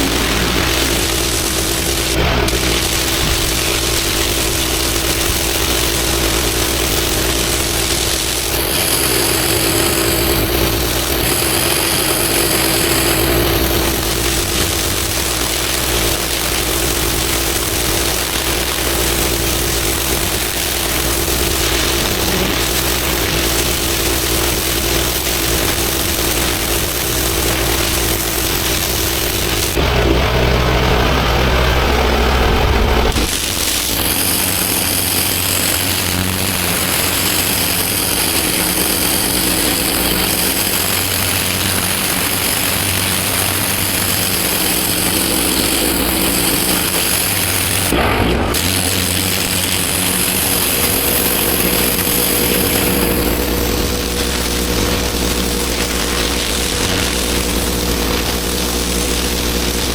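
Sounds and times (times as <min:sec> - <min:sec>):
spray hissing on paving: 0:00.0 - 0:32.2, 0:33.1 - 0:59.9
pressure washer engine running: 0:00.0 - 0:59.9.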